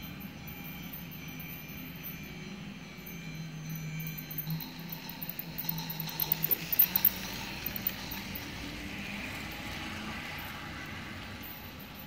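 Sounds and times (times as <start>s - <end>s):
toy train whirring and rattling: 0.0s - 12.0s.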